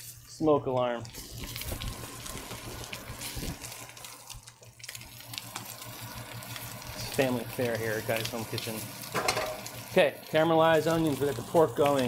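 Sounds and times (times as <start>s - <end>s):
meat sizzling in a skillet: 1.0s - 12.0s.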